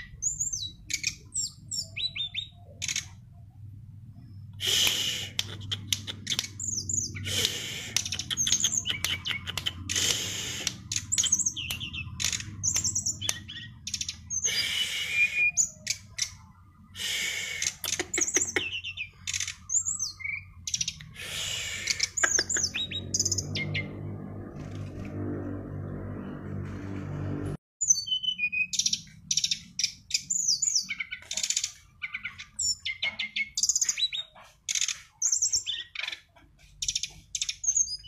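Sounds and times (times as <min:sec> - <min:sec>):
songbird singing: 0:00.0 - 0:24.9, 0:27.8 - 0:38.0.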